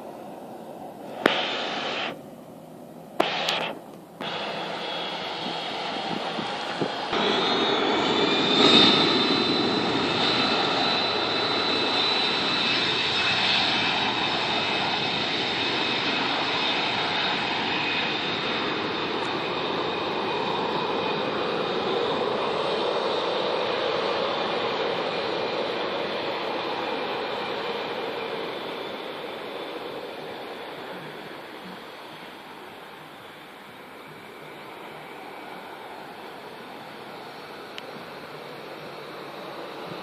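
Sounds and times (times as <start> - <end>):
airplane engines at takeoff power: 0.0 - 40.0.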